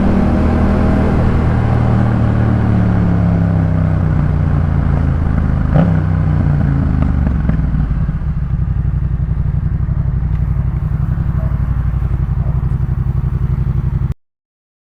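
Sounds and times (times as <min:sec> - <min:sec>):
motorcycle engine idling: 0:00.0 - 0:14.2.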